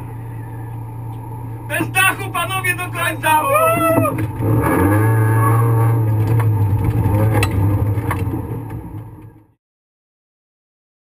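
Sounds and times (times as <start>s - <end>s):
rally car engine from inside cabin: 0.0s - 9.6s.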